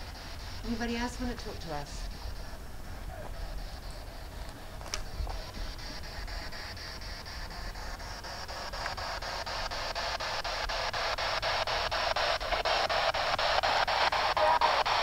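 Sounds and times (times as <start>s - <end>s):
choppy radio static hiss: 0.0s - 15.0s.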